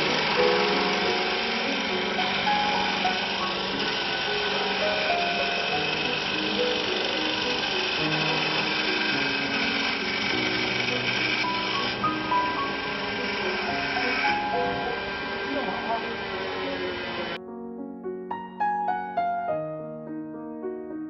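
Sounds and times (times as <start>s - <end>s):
wood lathe whining: 0.0s - 17.4s
slow background music: 0.0s - 21.0s.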